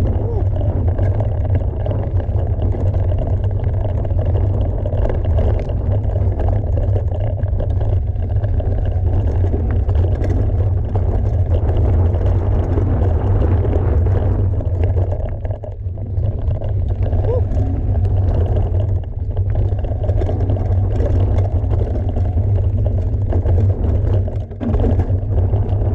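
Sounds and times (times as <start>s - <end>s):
wind rushing over microphone: 0.0s - 6.9s, 8.9s - 25.9s
bike trail rumble: 0.0s - 25.9s.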